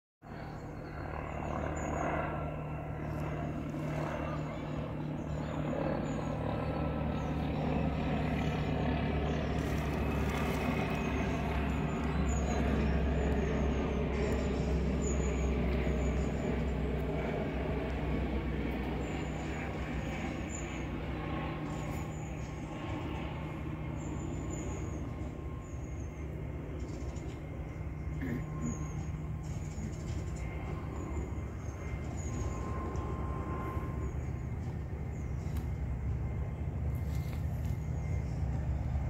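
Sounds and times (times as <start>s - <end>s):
distant diesel locomotive engine drone: 0.2s - 39.0s.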